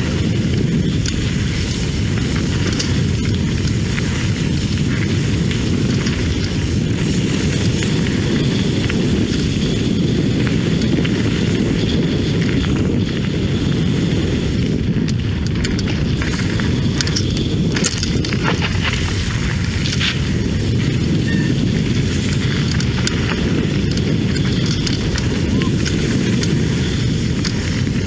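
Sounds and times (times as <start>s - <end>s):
bike clicks and rattles: 0.0s - 28.0s
tyres crunching on gravel: 0.0s - 28.0s
wind noise on microphone: 0.0s - 28.0s.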